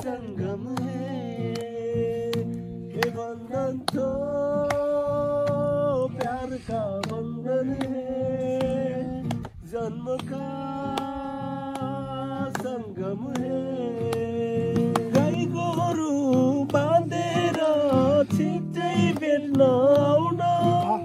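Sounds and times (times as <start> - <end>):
strummed acoustic guitar: 0.0 - 21.0
voices singing a slow song: 0.0 - 21.0.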